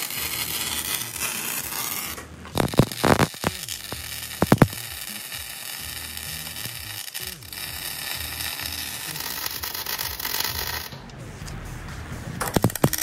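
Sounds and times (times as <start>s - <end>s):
welding arc crackling and sizzling: 0.0s - 11.0s, 12.4s - 13.0s.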